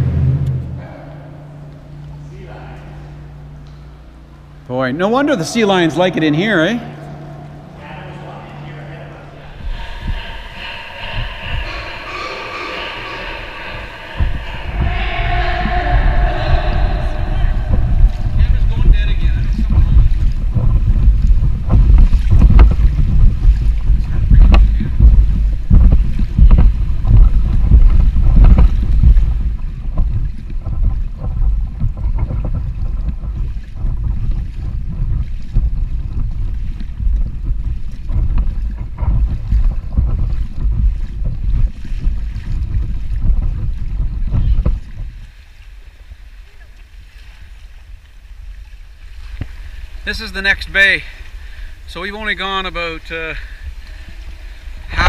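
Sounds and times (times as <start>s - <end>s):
water sloshing and splashing: 0.0s - 55.0s
wind buffeting microphone: 5.0s - 55.0s.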